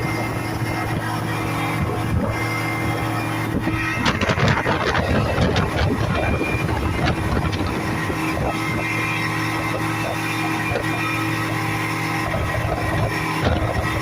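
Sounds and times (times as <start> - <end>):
speedboat engine humming: 0.0 - 14.0
water splashing and slapping: 0.0 - 14.0.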